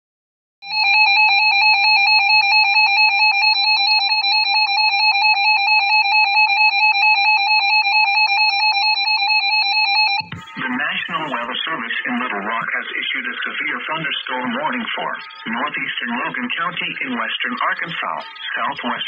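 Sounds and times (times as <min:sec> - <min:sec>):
shrill pulsing electronic alarm beep: 0:00.6 - 0:11.9, 0:13.6 - 0:19.0.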